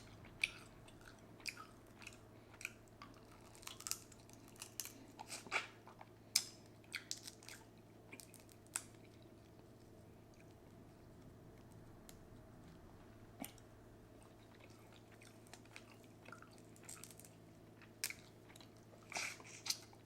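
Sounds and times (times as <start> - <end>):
faint steady hum: 0.0 - 20.0
person chewing crunchy food: 0.1 - 10.6, 14.2 - 20.0.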